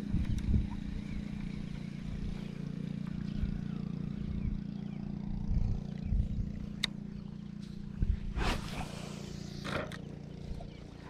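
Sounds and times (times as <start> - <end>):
engine humming: 0.0 - 11.0
uneven low rumbling: 0.0 - 11.0.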